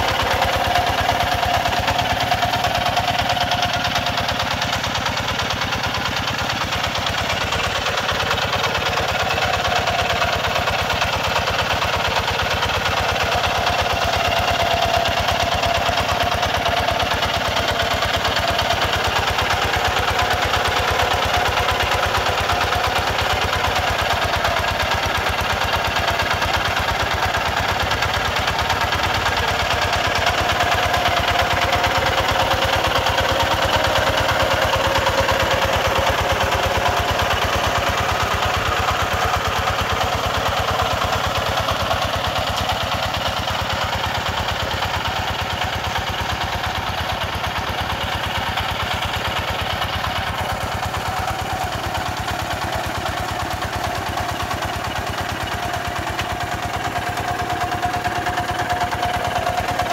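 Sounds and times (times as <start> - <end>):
walking tractor diesel engine thudding: 0.0 - 59.9.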